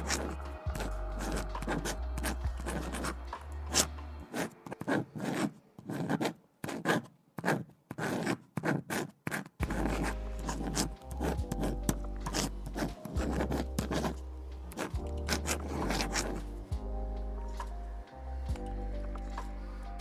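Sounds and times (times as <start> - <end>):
lo-fi music: 0.0 - 5.7, 9.6 - 20.0
pen scratching on paper: 0.0 - 16.7.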